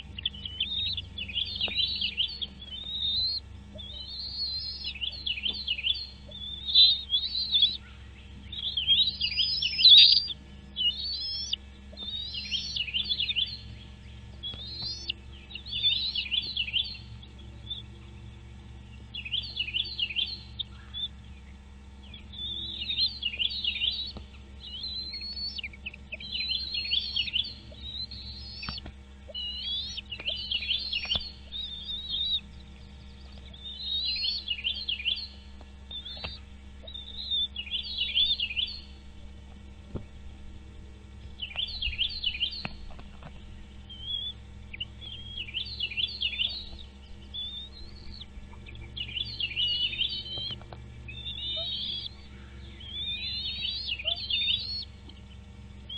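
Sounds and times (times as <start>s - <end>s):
bird chirping: 0.0s - 39.3s, 41.2s - 55.9s.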